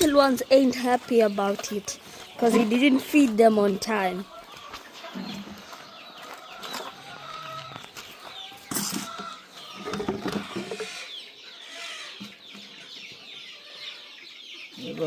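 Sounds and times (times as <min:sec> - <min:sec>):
chickens clucking: 0:00.0 - 0:15.0
chicks peeping: 0:00.0 - 0:15.0.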